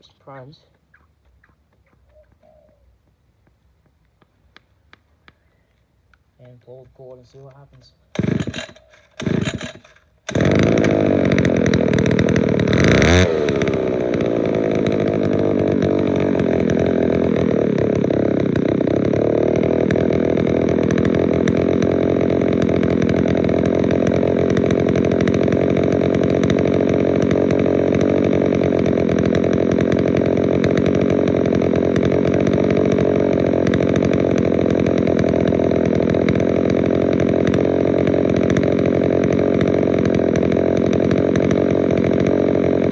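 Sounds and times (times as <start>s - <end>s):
small two-stroke engine running: 6.8s - 42.9s
pull cord starting: 8.1s - 42.9s.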